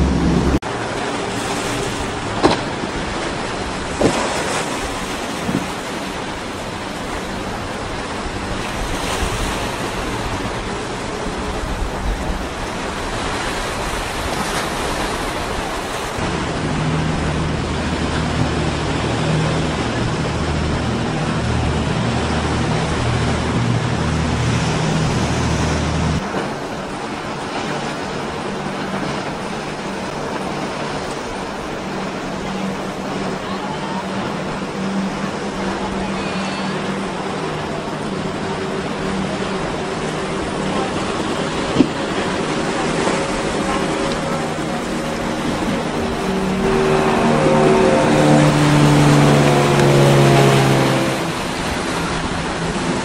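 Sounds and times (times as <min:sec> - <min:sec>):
boat wake spray: 0:00.0 - 0:53.0
motorboat engine droning: 0:00.0 - 0:53.0
surf rushing: 0:00.0 - 0:53.0
wind on microphone: 0:00.0 - 0:53.0.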